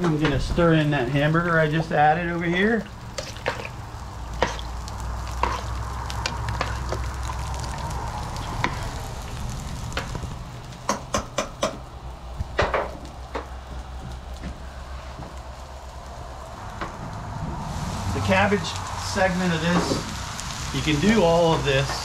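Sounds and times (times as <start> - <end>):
cabbage sizzling on griddle: 1.5 - 22.0.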